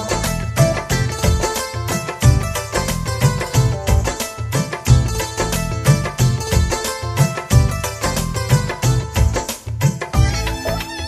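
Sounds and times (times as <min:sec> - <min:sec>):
instrumental melody: 0:00.0 - 0:11.0
steady drumbeat: 0:00.0 - 0:11.0.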